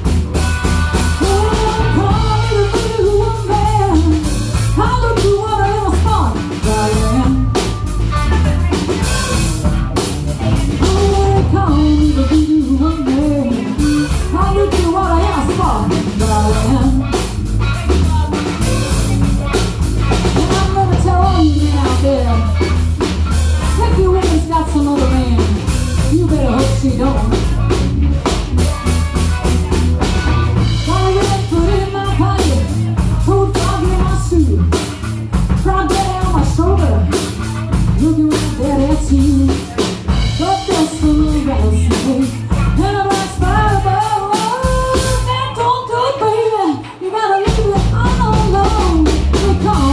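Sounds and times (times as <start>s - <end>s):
electric bass: 0.0s - 46.6s, 47.5s - 49.9s
drum kit: 0.0s - 49.9s
electric guitar: 0.0s - 49.9s
woman singing lead vocal: 1.1s - 9.3s, 10.4s - 27.8s, 30.6s - 49.9s.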